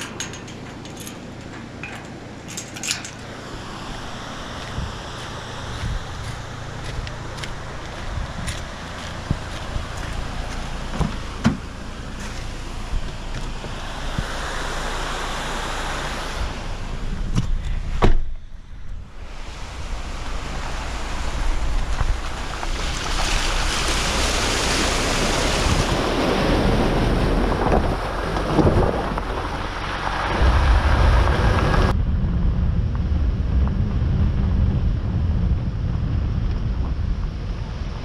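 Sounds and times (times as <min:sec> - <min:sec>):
wind buffeting microphone: 0:00.0 - 0:15.5, 0:16.1 - 0:38.0
rushing water: 0:00.0 - 0:18.3, 0:19.0 - 0:32.0
deep rumble: 0:00.0 - 0:38.0.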